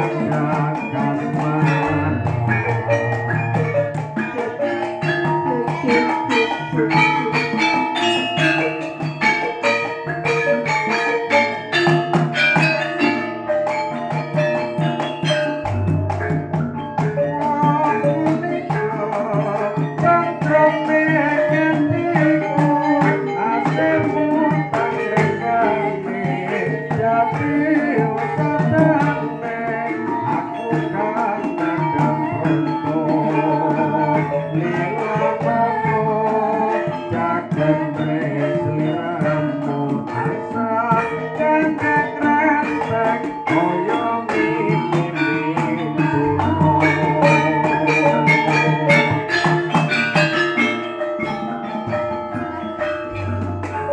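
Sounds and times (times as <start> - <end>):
gamelan metallophones and gongs: 0.0 - 53.9
hand drums: 0.0 - 53.9.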